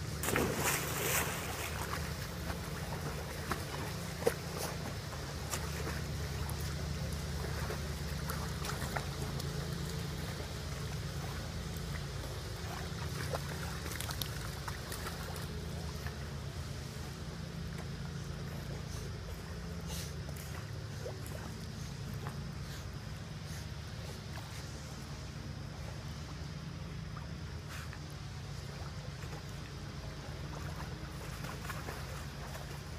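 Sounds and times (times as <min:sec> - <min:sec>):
steady low hum: 0:00.0 - 0:32.9
dogs splashing in pool: 0:00.2 - 0:25.0, 0:28.4 - 0:32.9.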